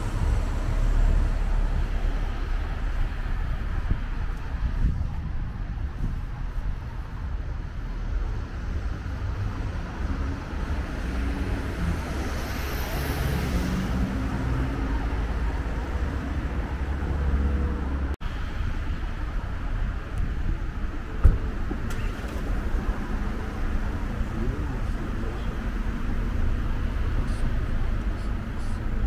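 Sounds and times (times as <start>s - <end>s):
wind rumble on microphone: 0.0s - 24.8s
road traffic: 0.0s - 29.0s.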